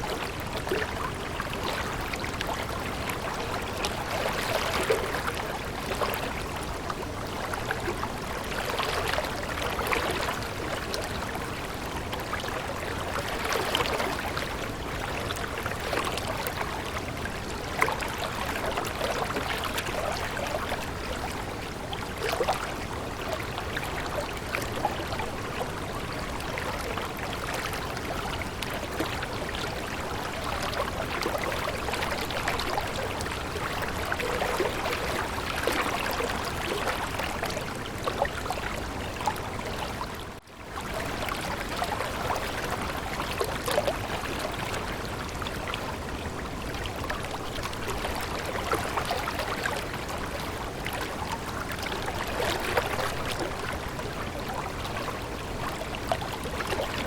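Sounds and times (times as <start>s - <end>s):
stream water trickling and gurgling: 0.0s - 57.0s.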